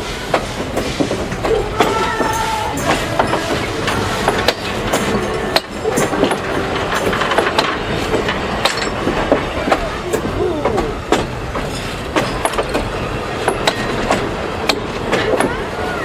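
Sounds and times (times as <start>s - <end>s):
train wheels rumbling on rails: 0.0s - 16.0s
wheels clanking over rail joints: 0.0s - 16.0s
wheels squeaking: 0.7s - 16.0s.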